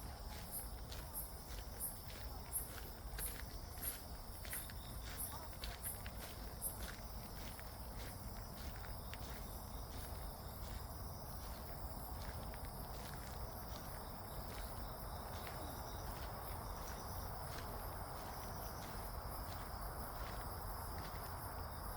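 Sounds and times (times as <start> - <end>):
footsteps walking on path: 0.0 - 21.9.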